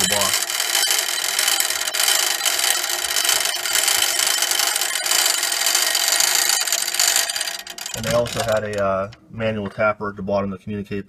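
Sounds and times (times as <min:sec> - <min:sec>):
clockwork gears whirring: 0:00.0 - 0:09.3.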